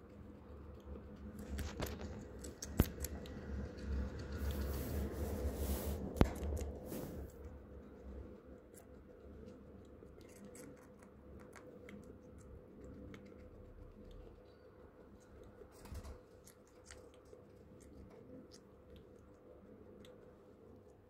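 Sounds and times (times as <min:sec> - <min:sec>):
faint steady hum: 0:00.0 - 0:21.0
guinea pig chewing: 0:00.0 - 0:21.0.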